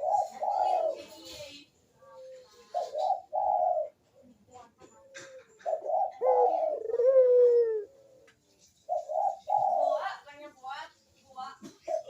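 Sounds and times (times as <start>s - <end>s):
dove cooing: 0.0s - 10.2s, 11.7s - 12.0s.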